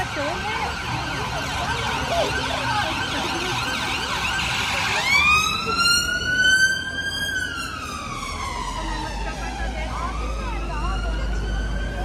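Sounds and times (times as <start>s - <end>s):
emergency vehicle siren: 0.0s - 12.0s.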